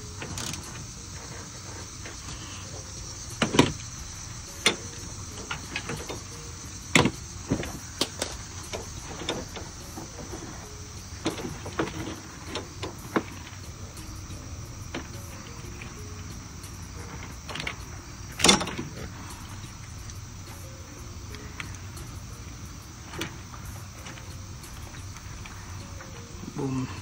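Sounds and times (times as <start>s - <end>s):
steady high-pitched hiss: 0.0s - 27.0s.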